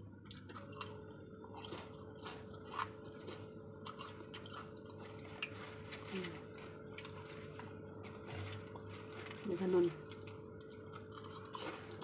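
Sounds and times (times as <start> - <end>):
potato chips crunching: 0.3 - 12.0.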